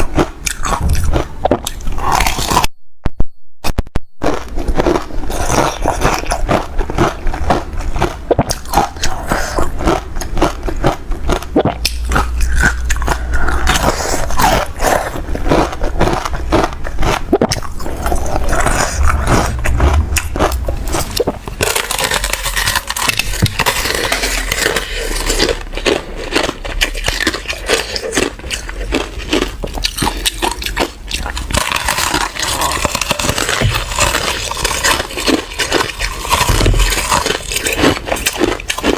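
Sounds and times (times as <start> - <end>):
person chewing crunchy ice: 0.0 - 2.7, 4.2 - 38.9.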